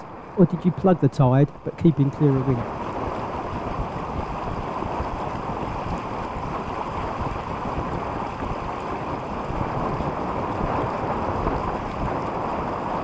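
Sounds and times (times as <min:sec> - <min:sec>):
water rushing along a hull: 0:00.0 - 0:13.0
wind buffeting microphone: 0:00.0 - 0:13.0.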